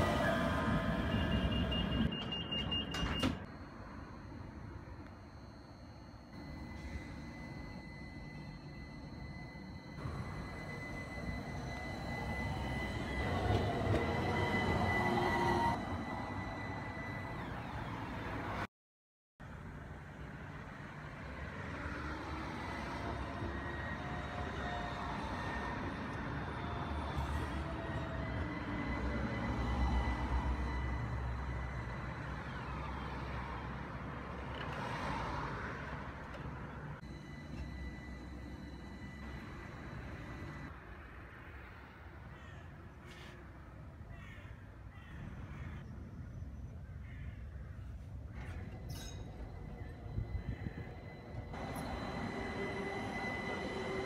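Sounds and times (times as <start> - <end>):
tram rumbling past: 0.0 - 5.3, 6.4 - 18.7, 19.5 - 42.5, 47.8 - 54.0
faint whining tones: 0.0 - 18.7, 20.1 - 54.0.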